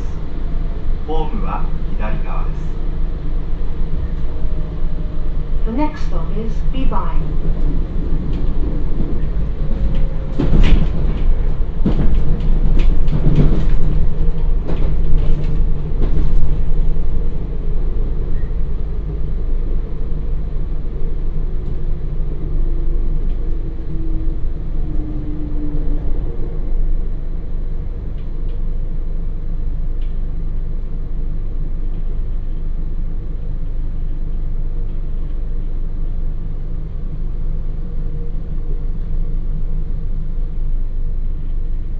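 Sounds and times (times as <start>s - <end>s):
train running rumble: 0.0s - 41.9s.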